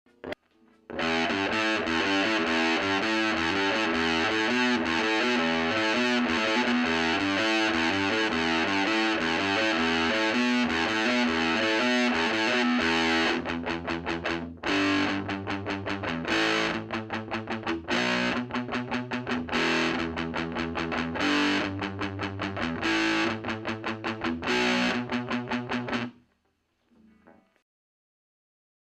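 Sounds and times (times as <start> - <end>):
distorted electric guitar: 0.1 - 26.2.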